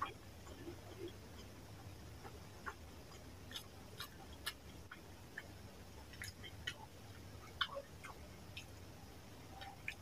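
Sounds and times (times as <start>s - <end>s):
mouth chewing and smacking: 0.0s - 10.0s.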